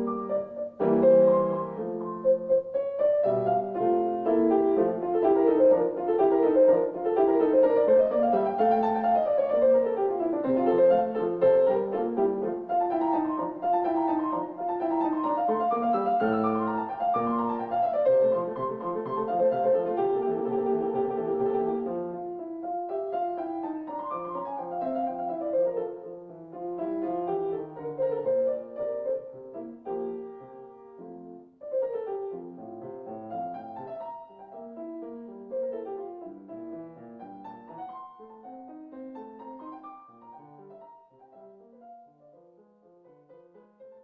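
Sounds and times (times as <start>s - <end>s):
instrumental music: 0.0s - 44.0s.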